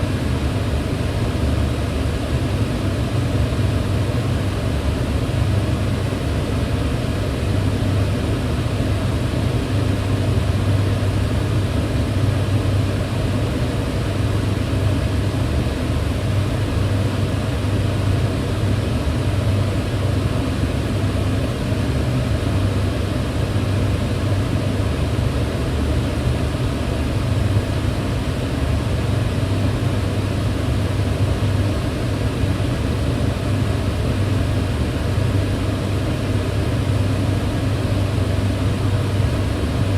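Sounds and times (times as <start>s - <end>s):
range hood fan running: 0.0s - 39.9s.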